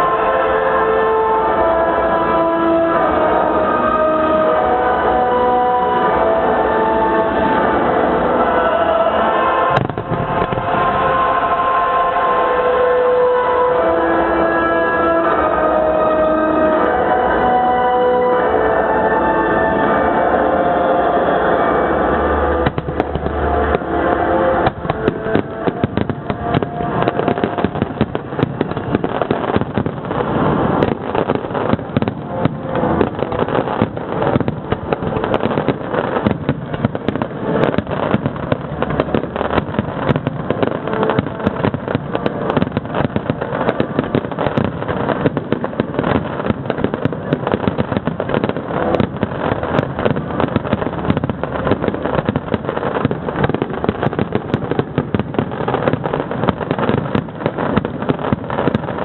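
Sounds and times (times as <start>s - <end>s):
fireworks bangs and crackles: 0.0s - 59.0s
music: 0.0s - 59.0s.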